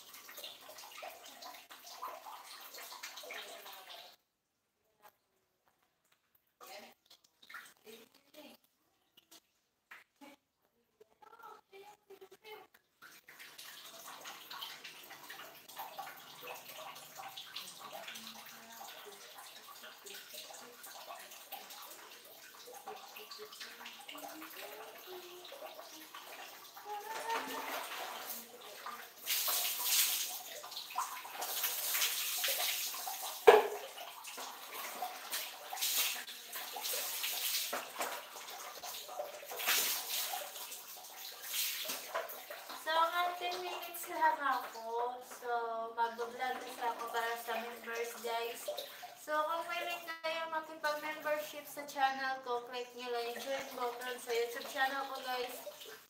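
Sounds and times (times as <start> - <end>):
water splashing in bathroom: 0.0 - 56.0.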